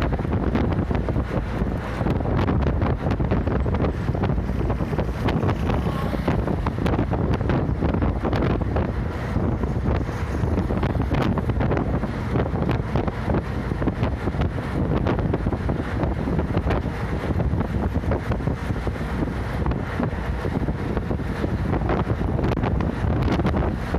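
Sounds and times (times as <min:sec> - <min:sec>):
bus engine and road rumble: 0:00.0 - 0:23.9
wind buffeting microphone: 0:00.0 - 0:23.9.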